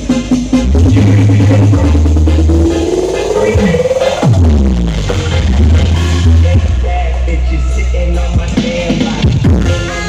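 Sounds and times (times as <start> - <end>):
loud electronic dance music: 0.0 - 10.0.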